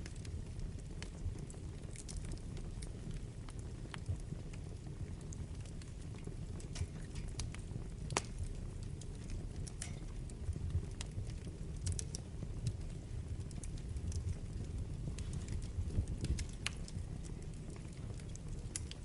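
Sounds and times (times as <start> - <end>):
burning logs crackling: 0.0 - 19.0
fire flames rumbling: 0.0 - 19.0.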